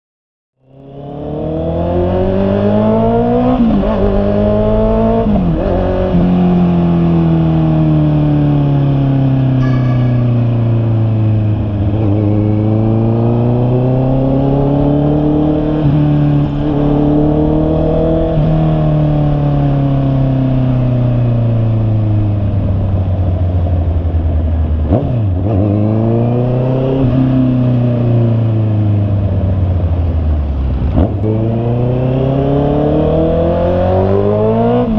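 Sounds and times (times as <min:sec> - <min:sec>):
motorcycle engine accelerating: 0:00.6 - 0:34.9.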